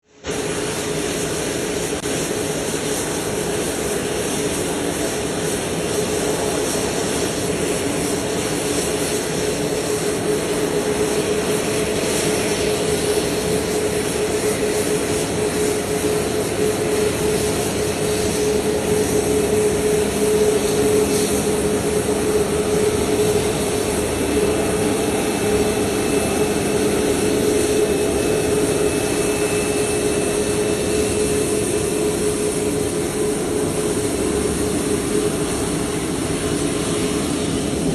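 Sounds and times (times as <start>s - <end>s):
constant hum: 0.2s - 37.9s
jet machinery rushing: 0.3s - 37.9s.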